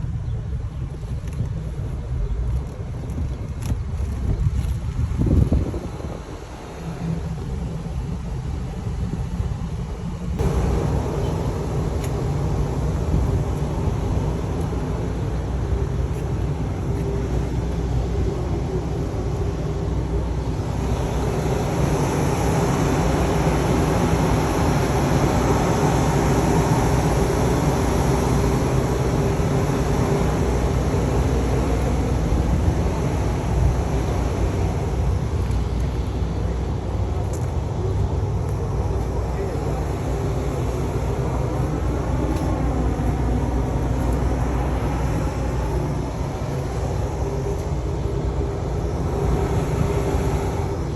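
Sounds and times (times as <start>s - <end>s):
car engine hum: 0.0s - 50.9s
road noise: 0.0s - 50.9s.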